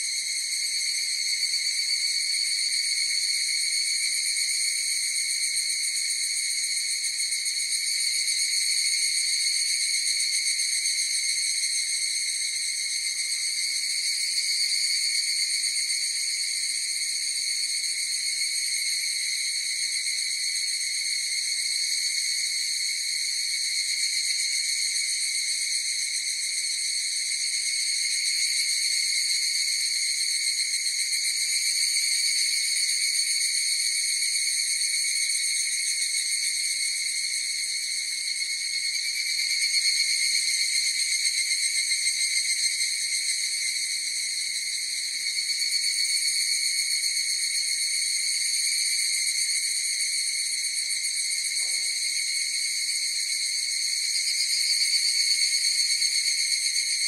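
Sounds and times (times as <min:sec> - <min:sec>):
cicadas ringing: 0:00.0 - 0:57.0.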